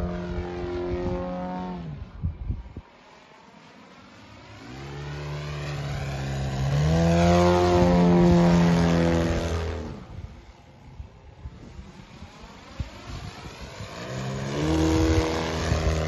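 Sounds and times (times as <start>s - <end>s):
model airplane engine passing: 0.0s - 16.0s.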